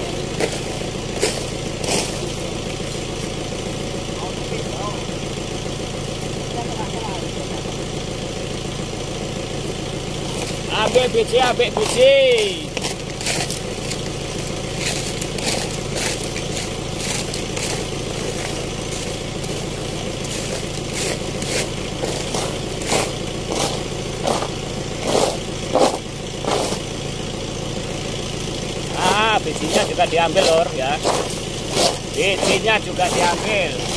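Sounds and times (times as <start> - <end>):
engine hum: 0.0 - 33.9.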